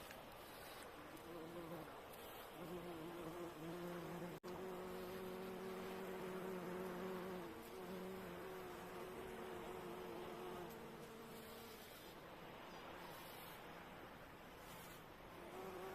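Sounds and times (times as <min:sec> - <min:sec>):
faint sea waves: 0:00.0 - 0:15.9
bumblebee buzzing: 0:00.4 - 0:12.2, 0:14.6 - 0:15.9.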